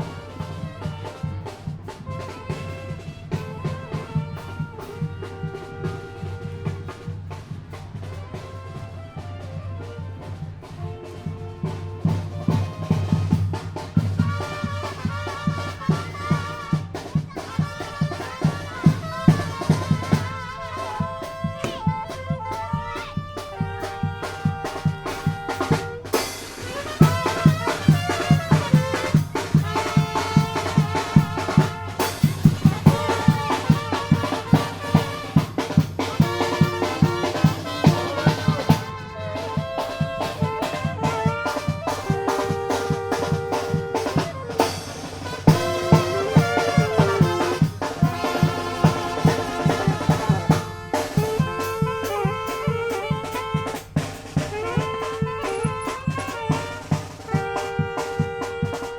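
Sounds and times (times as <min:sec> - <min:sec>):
brass band melody: 0:00.0 - 0:58.9
bass drum and snare beat: 0:11.6 - 0:58.9.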